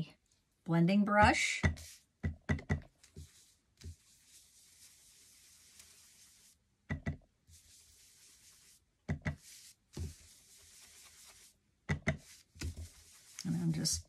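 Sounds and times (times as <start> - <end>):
foam brush tapping ink pad: 1.6 - 14.0.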